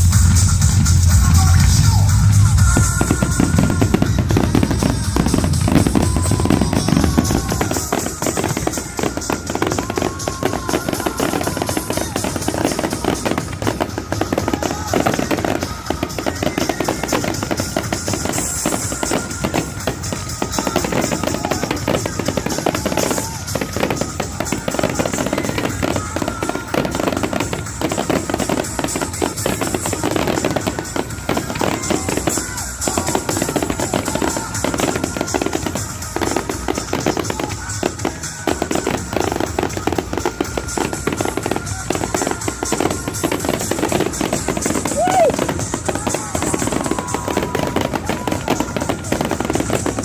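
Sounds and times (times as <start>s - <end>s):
fireworks bangs and crackles: 0.0s - 50.0s
music: 0.0s - 50.0s.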